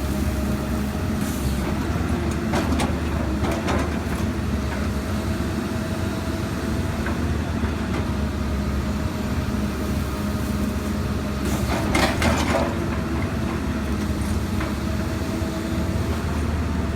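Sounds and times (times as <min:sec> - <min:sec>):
excavator diesel engine running: 0:00.0 - 0:16.9.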